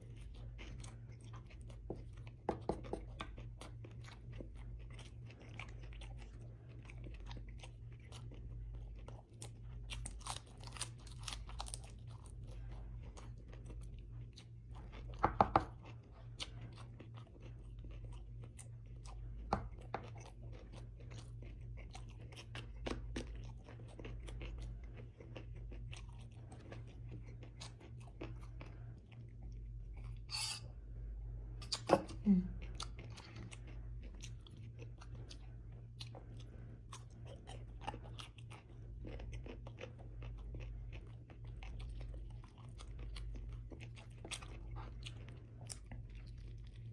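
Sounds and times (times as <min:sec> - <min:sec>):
low steady hum: 0:00.0 - 0:46.9
person chewing food: 0:00.0 - 0:46.9.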